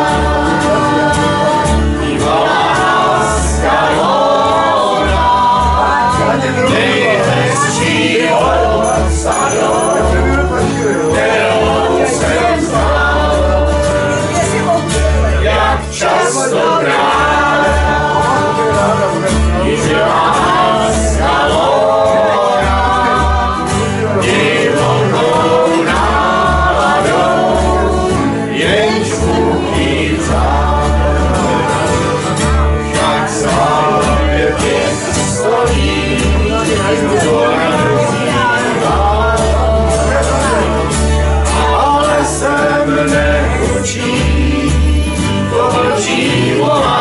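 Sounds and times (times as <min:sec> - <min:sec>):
accordion: 0:00.0 - 0:47.0
acoustic guitars: 0:00.0 - 0:47.0
double bass: 0:00.0 - 0:47.0
group singing: 0:00.0 - 0:47.0.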